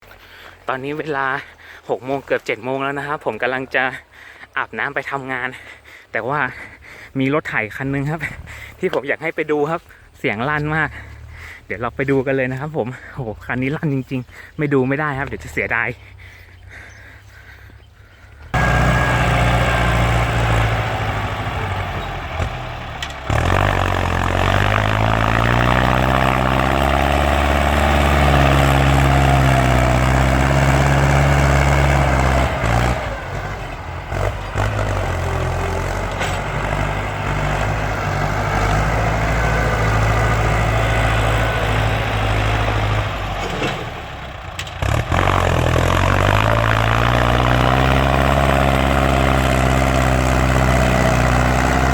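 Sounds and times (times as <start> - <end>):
tractor engine revving: 7.6 - 51.9.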